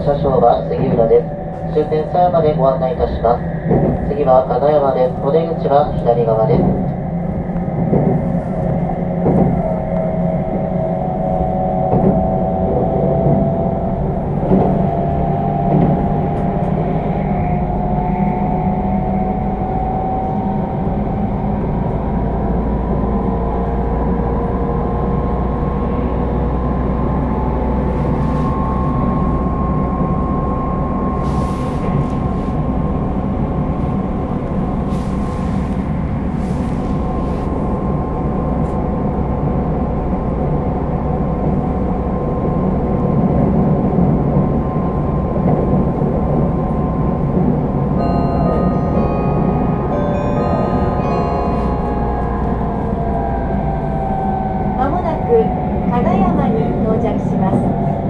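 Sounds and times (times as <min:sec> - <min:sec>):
electric train low rumble: 0:00.0 - 0:58.0
train whine rising in pitch: 0:08.4 - 0:58.0.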